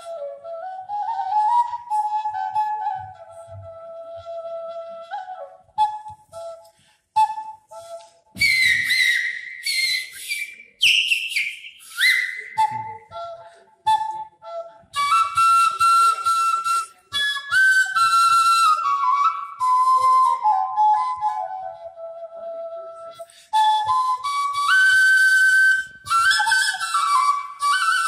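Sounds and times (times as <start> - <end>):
bamboo flute melody: 0.0 - 28.0.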